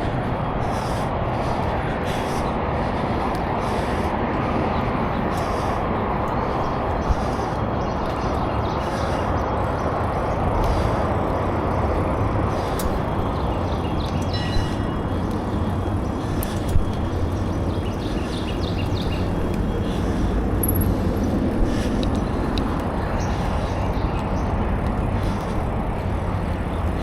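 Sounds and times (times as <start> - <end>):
bicycle tyres on pavement: 0.0 - 27.0
wind over microphone: 0.0 - 27.0.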